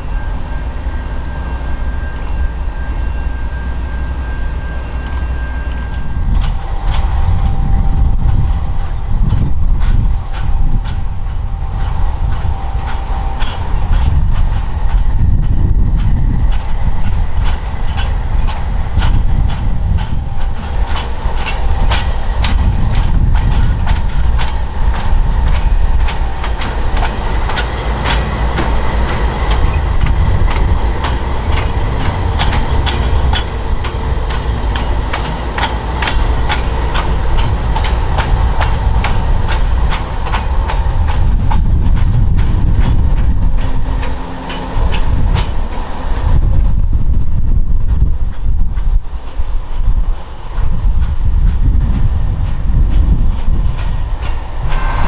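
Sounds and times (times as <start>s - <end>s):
freight train rumbling: 0.0s - 55.0s
wheels clicking over rail joints: 8.0s - 55.0s.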